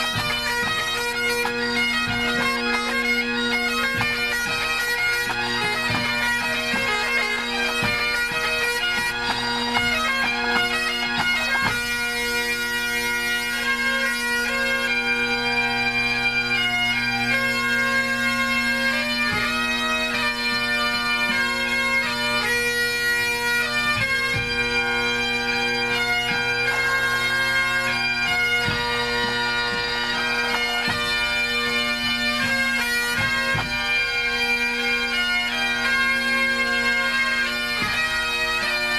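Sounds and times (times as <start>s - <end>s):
bagpipe chanter notes: 0.0s - 38.9s
bagpipe drones: 0.0s - 38.9s.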